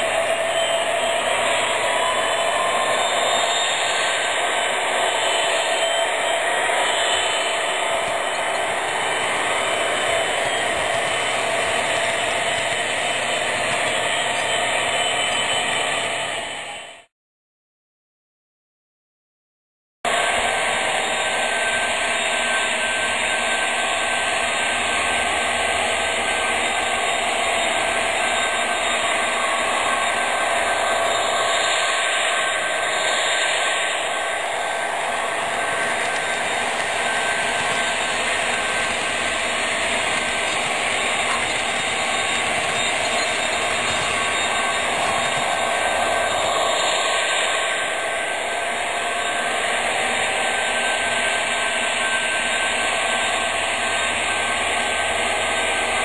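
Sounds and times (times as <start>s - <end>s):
model locomotive diesel engine drone: 0.0s - 17.1s, 20.1s - 56.0s
model train running on track: 0.0s - 17.1s, 20.1s - 56.0s.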